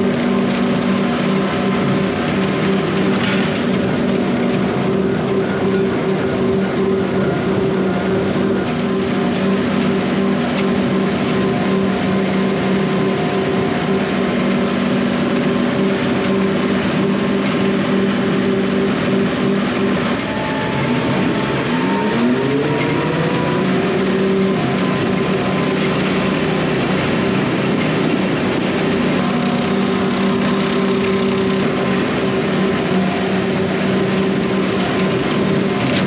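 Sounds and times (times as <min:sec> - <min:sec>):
rotary cutter noise: 0:00.0 - 0:36.0
tractor engine running under load: 0:00.0 - 0:36.0.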